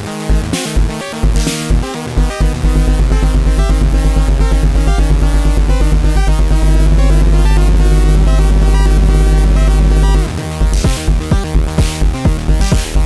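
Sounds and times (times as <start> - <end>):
low synth pulse: 0.3 - 13.0.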